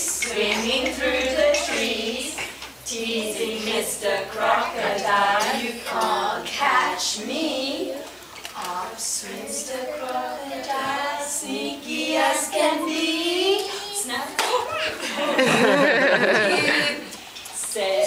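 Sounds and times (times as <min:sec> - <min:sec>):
young children singing: 0:00.0 - 0:18.0.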